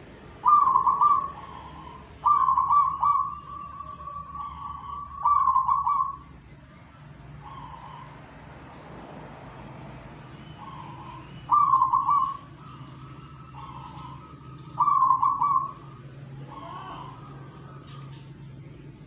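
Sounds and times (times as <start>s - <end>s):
bird calling: 0.0s - 19.0s
steady low hum: 0.0s - 19.0s.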